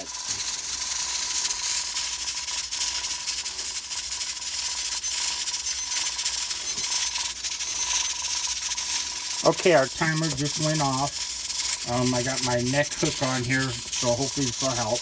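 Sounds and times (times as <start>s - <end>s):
pressure regulator rattling: 0.0s - 15.0s
steam hissing from vent: 0.0s - 15.0s
thin steady whistle: 0.0s - 15.0s.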